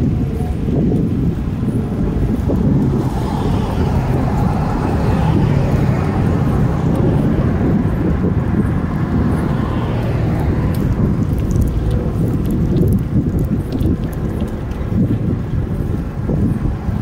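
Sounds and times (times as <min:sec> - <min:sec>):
car tyre noise: 0:00.0 - 0:17.0
wind rumble on microphone: 0:00.0 - 0:17.0.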